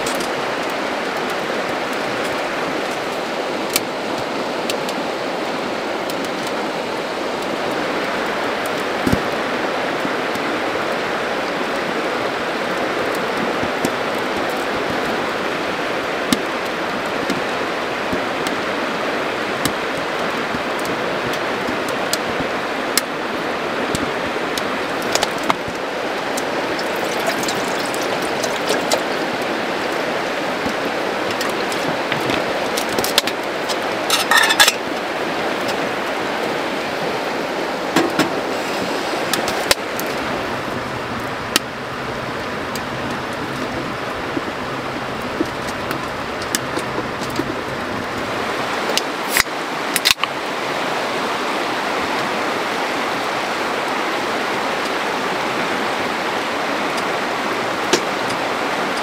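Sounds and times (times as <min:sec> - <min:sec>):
river rushing: 0:00.0 - 0:59.0
wood fire crackling: 0:00.0 - 0:59.0.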